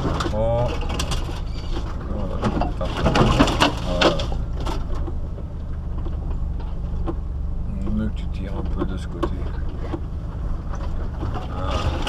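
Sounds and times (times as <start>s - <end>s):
off-road vehicle engine running: 0.0s - 12.0s
wheels crunching over stony ground: 0.0s - 12.0s.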